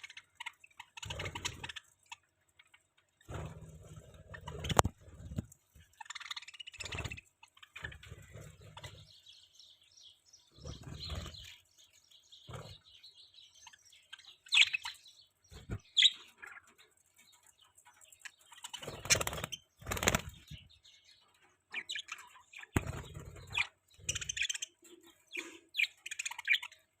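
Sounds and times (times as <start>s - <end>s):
budgerigars chirping: 0.0s - 16.8s, 17.4s - 27.0s.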